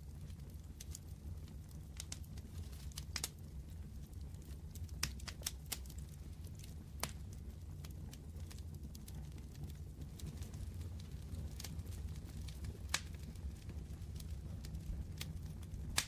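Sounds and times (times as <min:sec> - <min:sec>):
fire crackling and popping: 0:00.0 - 0:16.0
low steady rumble: 0:00.0 - 0:16.0.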